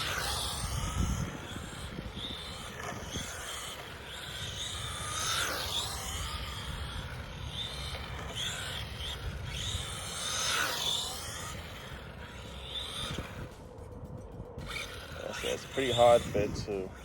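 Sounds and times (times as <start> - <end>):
rc car electric motor whining: 0.0 - 17.0.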